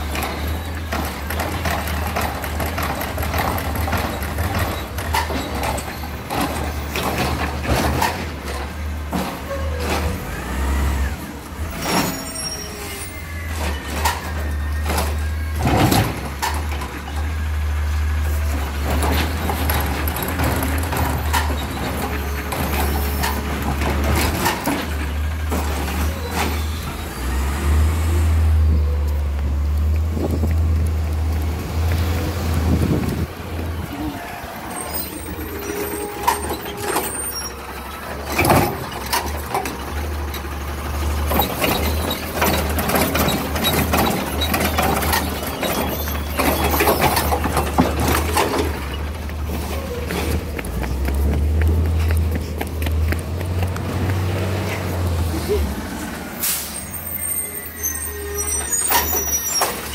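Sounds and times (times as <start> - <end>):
carts and arm clanking: 0.0 - 59.9
garbage truck engine drone: 0.0 - 59.9.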